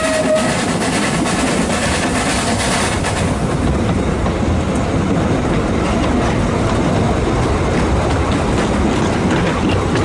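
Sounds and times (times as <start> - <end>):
train wheels clattering on track: 0.0 - 10.0.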